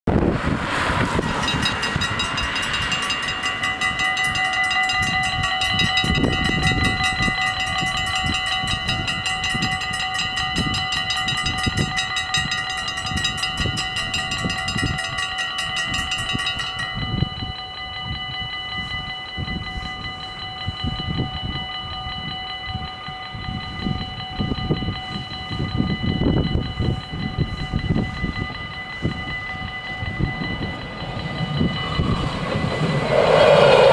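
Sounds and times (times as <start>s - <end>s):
level crossing bells ringing: 1.2s - 33.9s
steady ringing tone: 1.2s - 33.9s.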